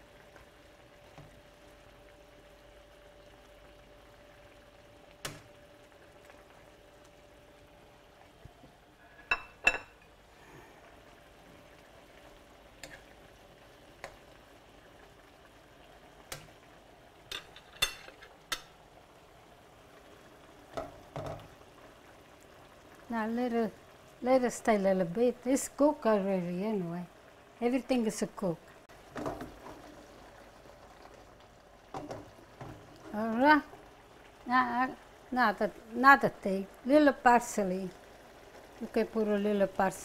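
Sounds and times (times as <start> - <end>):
sauce simmering in a skillet: 0.0 - 40.0.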